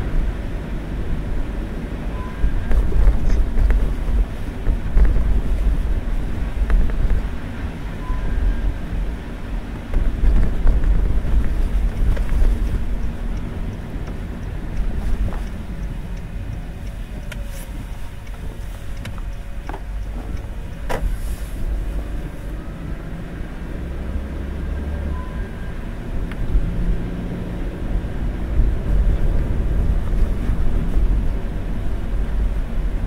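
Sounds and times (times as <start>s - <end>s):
car driving on wet road: 0.0s - 33.0s.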